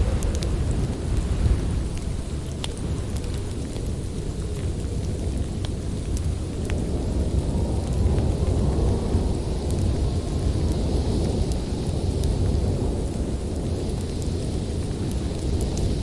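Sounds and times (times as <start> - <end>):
storm wind rumbling: 0.0 - 16.0
wood fire crackling: 0.0 - 16.0.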